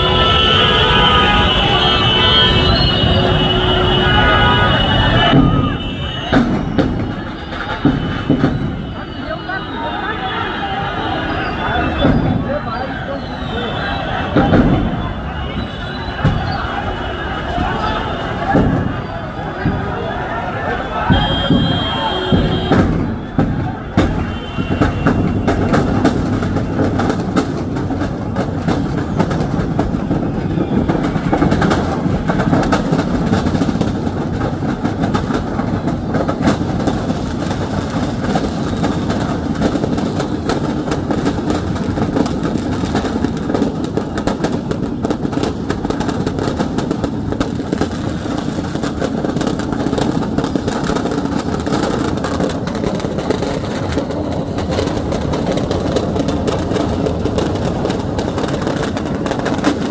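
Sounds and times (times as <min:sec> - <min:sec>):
firecrackers crackling and popping: 0:00.0 - 0:59.9.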